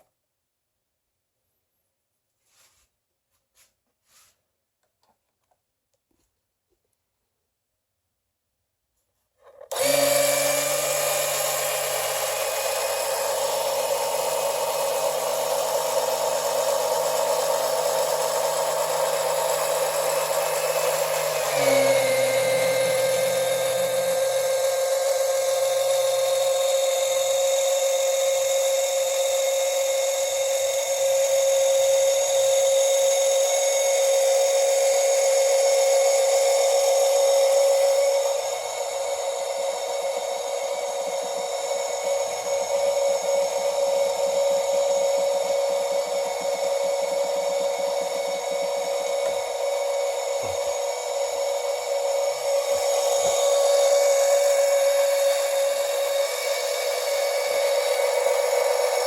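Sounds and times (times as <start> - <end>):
electric pump motor whining: 9.5 - 59.0.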